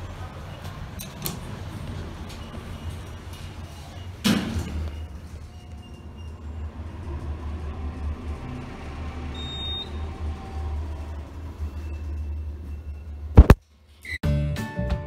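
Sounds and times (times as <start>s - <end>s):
elevator car rumble and hum: 0.0s - 13.4s.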